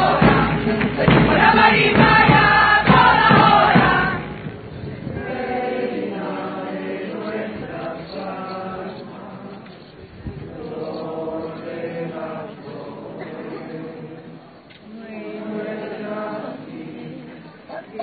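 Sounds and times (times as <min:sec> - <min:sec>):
crowd singing in chorus: 0:00.0 - 0:18.0.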